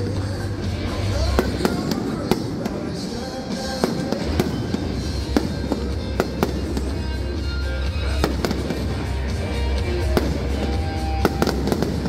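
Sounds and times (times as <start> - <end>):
fireworks bangs: 0.0 - 12.0
loud music with heavy bass: 0.0 - 12.0.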